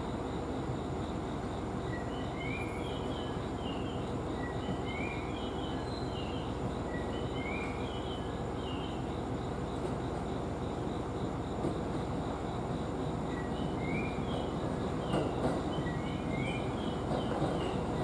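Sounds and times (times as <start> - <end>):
electric train rumbling slowly: 0.0 - 18.0.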